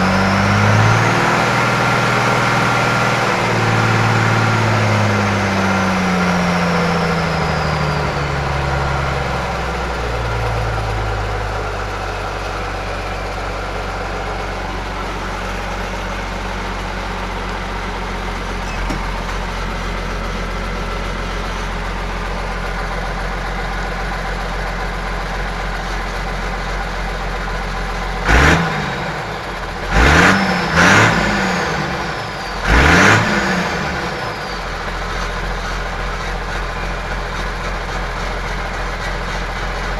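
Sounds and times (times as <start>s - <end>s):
tractor diesel engine: 0.0s - 39.9s.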